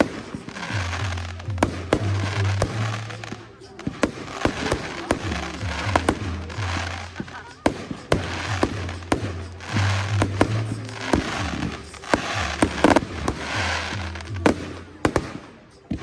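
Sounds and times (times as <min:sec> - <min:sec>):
fireworks bangs: 0:00.0 - 0:16.0
fireworks hissing crackle: 0:00.0 - 0:16.0
music playing: 0:00.0 - 0:16.0.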